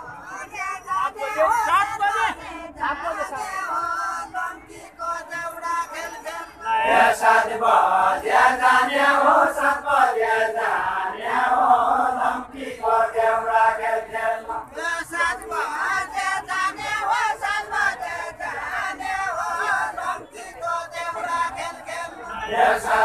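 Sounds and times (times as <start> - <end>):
group singing folk song: 2.3 - 23.0.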